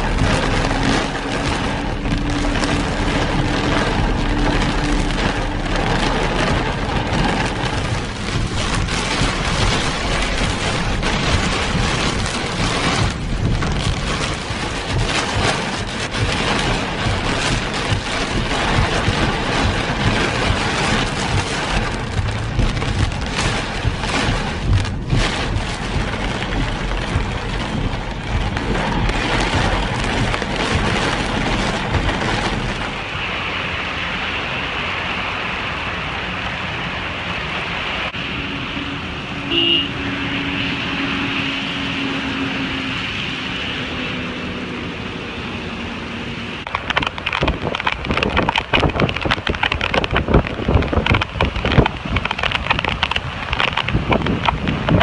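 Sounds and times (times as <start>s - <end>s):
rain and storm: 0.0s - 55.0s
wind crackling on microphone: 0.0s - 55.0s.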